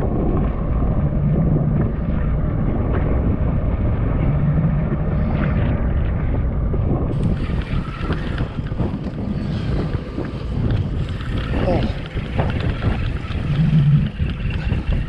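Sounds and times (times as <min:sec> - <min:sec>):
choppy sea: 0:00.0 - 0:15.0
wind buffeting microphone: 0:00.0 - 0:15.0.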